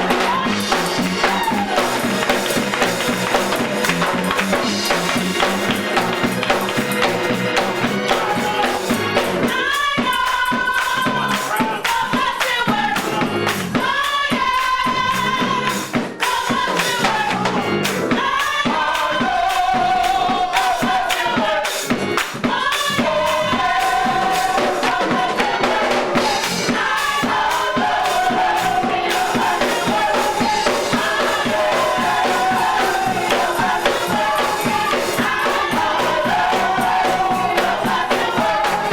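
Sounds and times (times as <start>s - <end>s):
band playing: 0.0s - 38.9s
gospel choir singing: 0.0s - 38.9s
tambourine shaken in rhythm: 0.0s - 38.9s.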